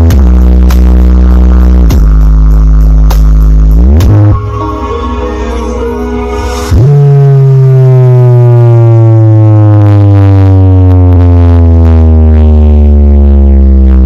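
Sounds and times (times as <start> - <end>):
distorted low bass note sliding down: 0.0 - 14.0.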